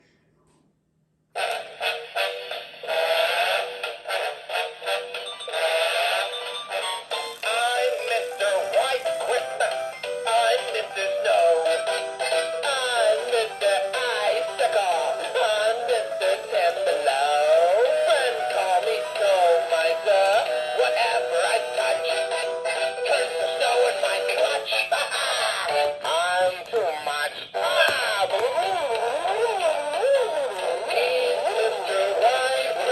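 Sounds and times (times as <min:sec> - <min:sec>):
tinny toy song with singing: 0:01.4 - 0:32.9.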